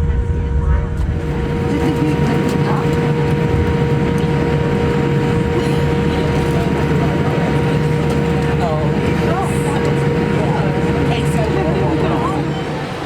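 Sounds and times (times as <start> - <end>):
vehicle interior rumble: 0.0 - 12.4
constant hum: 0.0 - 13.0.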